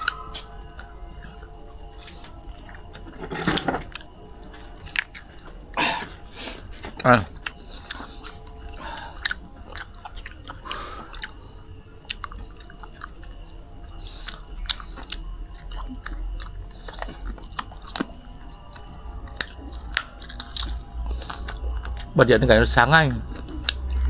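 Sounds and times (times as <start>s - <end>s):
person chewing food: 0.0s - 22.2s, 23.2s - 24.0s.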